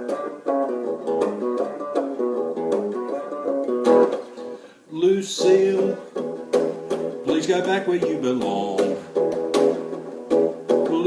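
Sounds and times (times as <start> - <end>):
acoustic string instrument strummed: 0.0 - 11.0.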